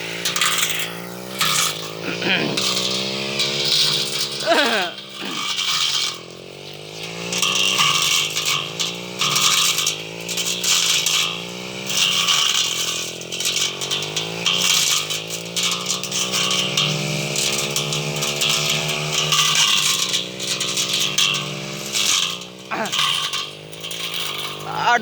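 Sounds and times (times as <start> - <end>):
brush cutter engine revving: 0.0 - 25.0.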